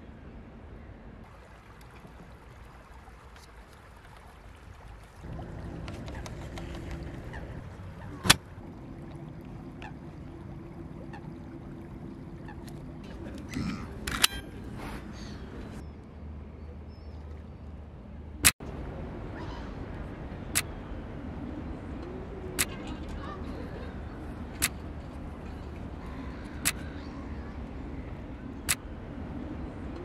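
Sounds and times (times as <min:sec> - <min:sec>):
low background noise: 0:00.0 - 0:30.0.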